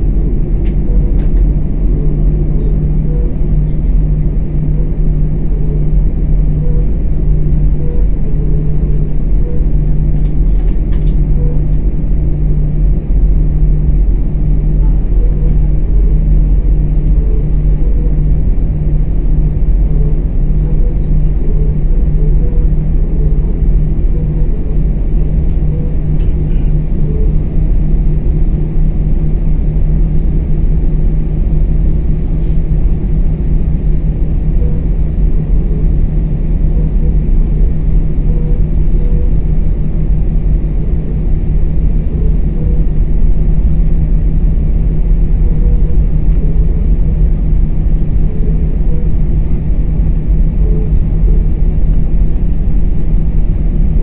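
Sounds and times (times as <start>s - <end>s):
airliner engine rumble in cabin: 0.0s - 54.0s.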